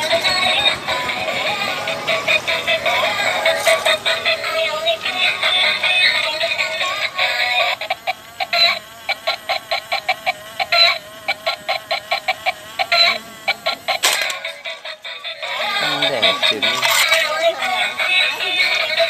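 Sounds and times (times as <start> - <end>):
toy playing electronic tune: 0.0 - 19.0
toy click: 2.1 - 19.0.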